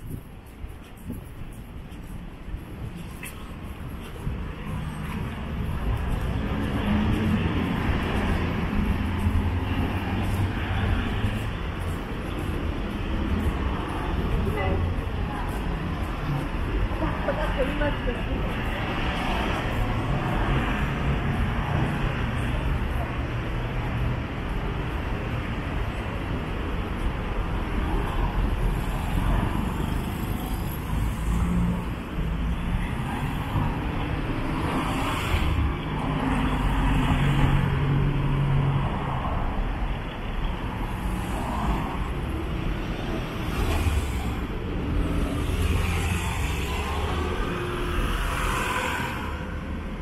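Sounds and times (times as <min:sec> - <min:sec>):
traffic passing: 0:00.0 - 0:50.0.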